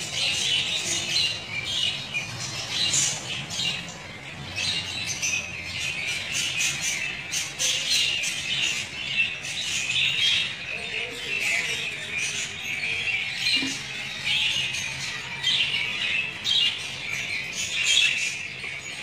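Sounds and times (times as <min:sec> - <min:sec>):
flock of parrots chattering: 0:00.0 - 0:19.0.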